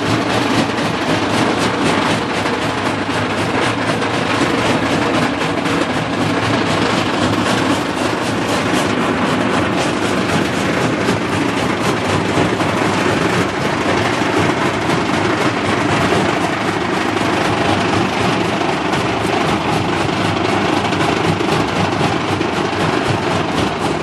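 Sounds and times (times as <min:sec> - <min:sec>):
jaw crusher machine noise: 0:00.0 - 0:24.0
rapid clatter of small impacts: 0:00.0 - 0:24.0.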